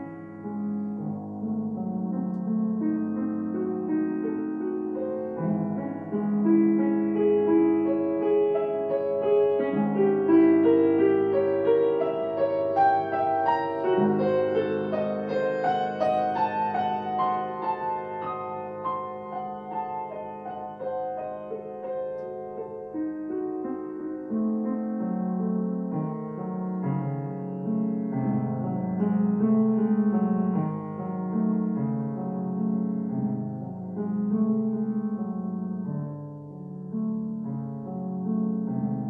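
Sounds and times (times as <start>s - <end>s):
classical piano piece: 0.0s - 39.0s.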